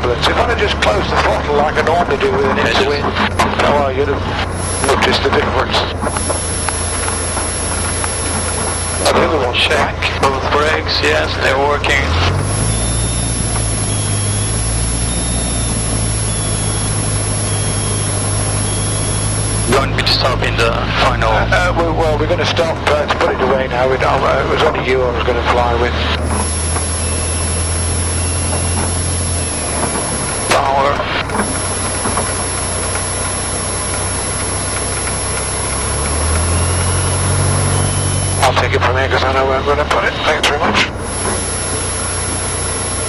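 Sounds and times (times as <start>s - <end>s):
propeller plane engine droning: 0.0s - 43.0s.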